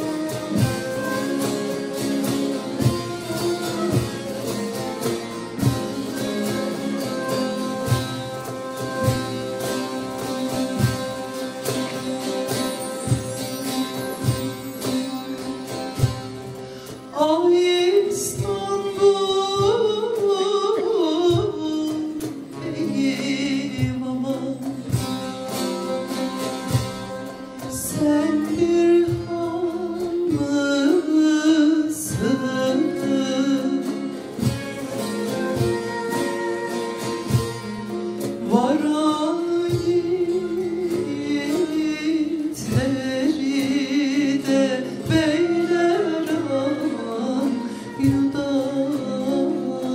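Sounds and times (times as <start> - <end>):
person singing: 0.0 - 13.4, 16.8 - 49.9
drum strokes: 0.0 - 17.3, 23.3 - 30.7, 32.1 - 49.0
plucked strings: 0.0 - 49.9.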